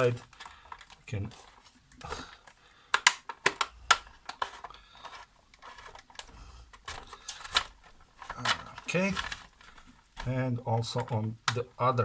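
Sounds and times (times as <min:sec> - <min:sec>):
plastic clips clicking and snapping: 0:00.0 - 0:11.7.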